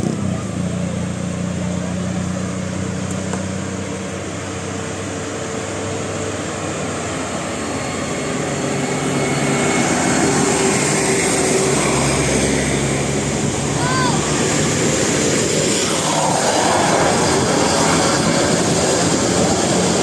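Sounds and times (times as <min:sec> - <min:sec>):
heavy vehicle approaching: 0:00.0 - 0:20.0
road traffic passing: 0:00.0 - 0:20.0.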